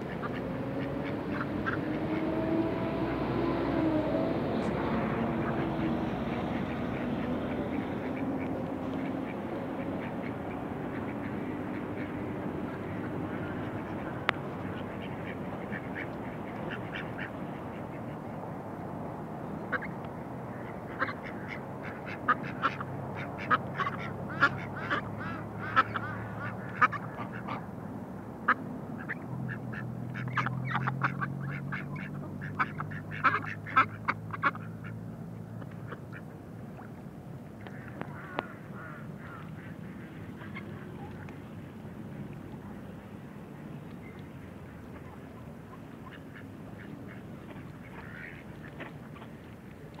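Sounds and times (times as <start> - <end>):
ducks quacking: 0.0 - 3.8, 4.5 - 18.4, 19.6 - 27.7, 28.5 - 35.0, 37.6 - 42.9, 44.1 - 50.0.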